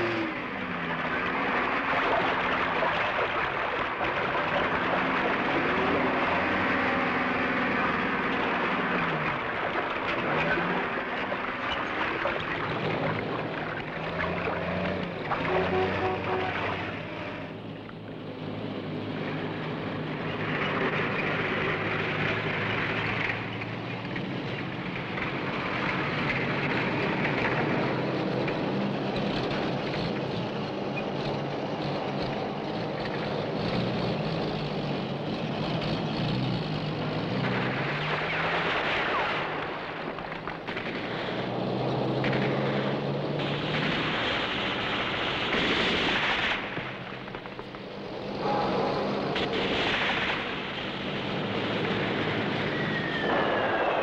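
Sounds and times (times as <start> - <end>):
military vehicle engines droning: 0.0 - 54.0
rushes of noise: 0.0 - 54.0.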